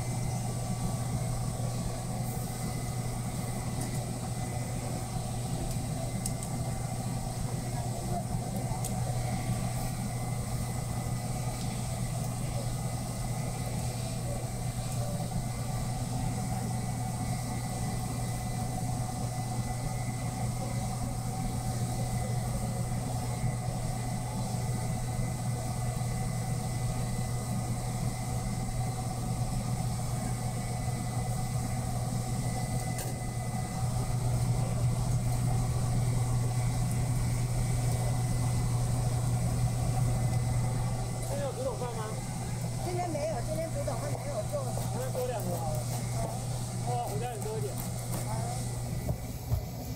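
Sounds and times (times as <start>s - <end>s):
motor droning: 0.0s - 49.9s
thin steady whines: 0.0s - 49.9s.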